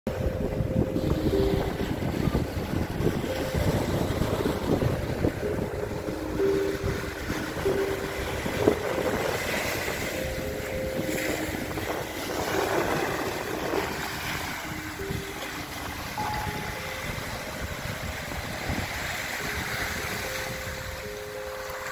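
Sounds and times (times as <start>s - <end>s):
wind buffeting microphone: 0.1s - 21.9s
small waves breaking on beach: 0.8s - 21.9s.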